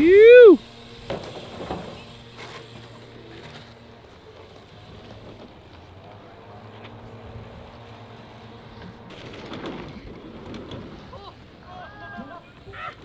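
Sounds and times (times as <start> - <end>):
low engine hum: 0.0 - 11.6.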